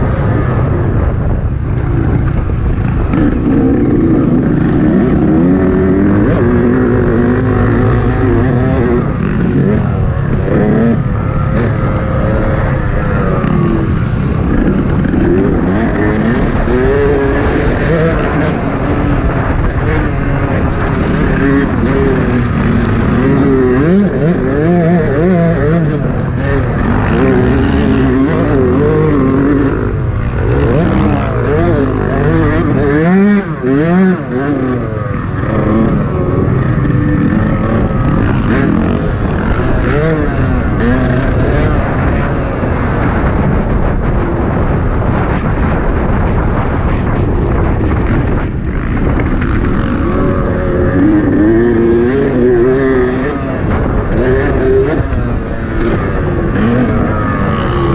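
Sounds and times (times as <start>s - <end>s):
two-stroke motocross engine revving: 0.0s - 57.9s.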